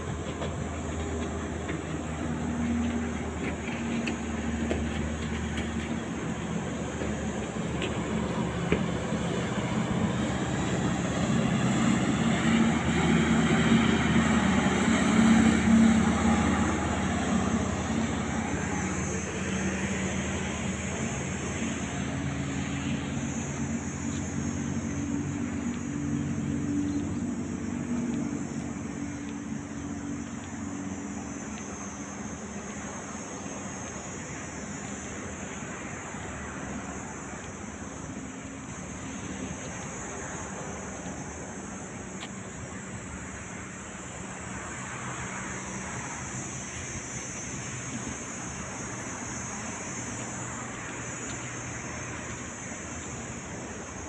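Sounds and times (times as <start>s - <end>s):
constant hiss: 0.0s - 54.0s
engine drone: 0.0s - 54.0s.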